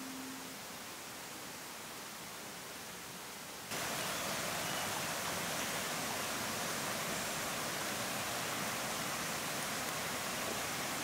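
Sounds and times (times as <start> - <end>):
faint hiss: 0.0 - 11.0
stream water flowing: 0.0 - 11.0.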